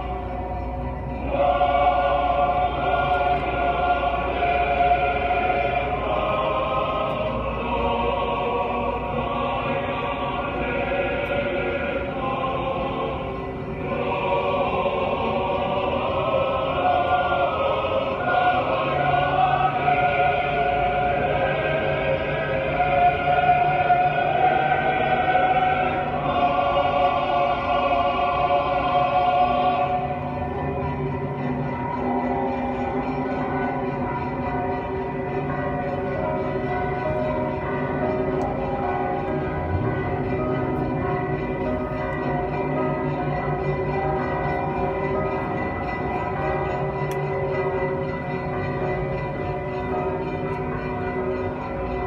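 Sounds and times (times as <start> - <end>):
choir singing held chords: 0.0 - 52.0.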